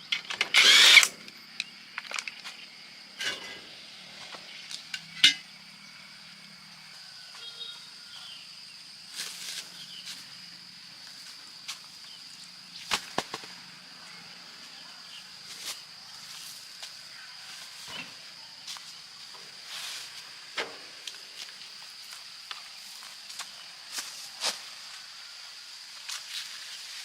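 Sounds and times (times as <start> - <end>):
insect drone: 0.0 - 27.0.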